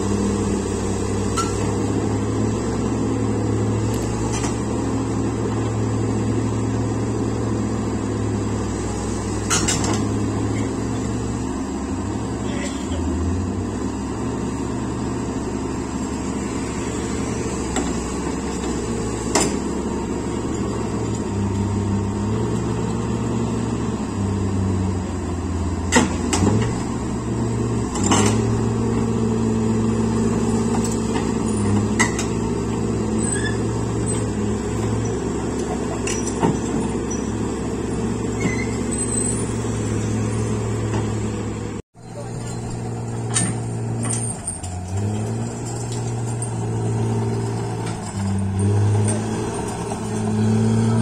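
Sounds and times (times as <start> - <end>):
excavator diesel engine under load: 0.0 - 51.0.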